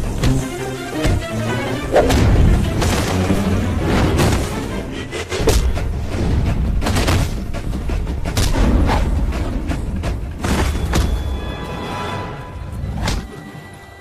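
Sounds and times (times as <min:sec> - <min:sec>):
dramatic action film score: 0:00.0 - 0:14.0.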